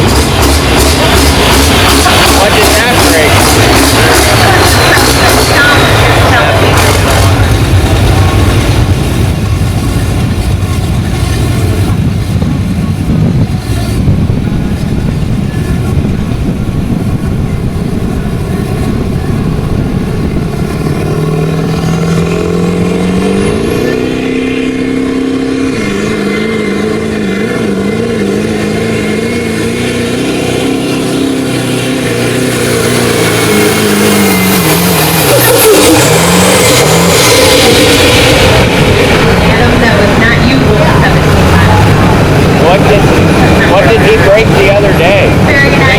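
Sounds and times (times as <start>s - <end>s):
truck engine under heavy load: 0.0s - 45.9s.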